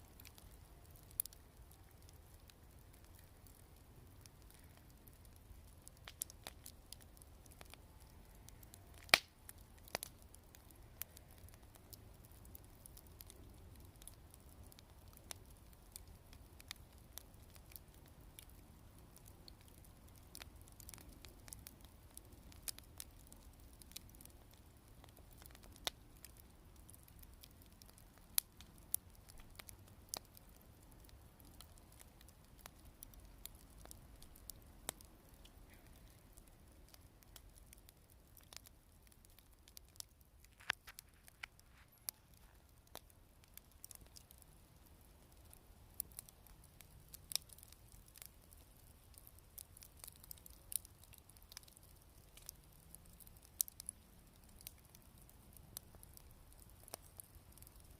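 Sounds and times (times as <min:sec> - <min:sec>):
campfire crackling: 0:00.0 - 0:57.9
fire pops and snaps: 0:00.0 - 0:57.9.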